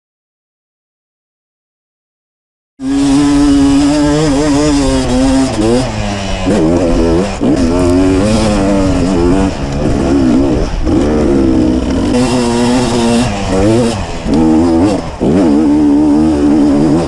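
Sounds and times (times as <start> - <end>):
dirt bike engine revving: 2.8 - 17.0.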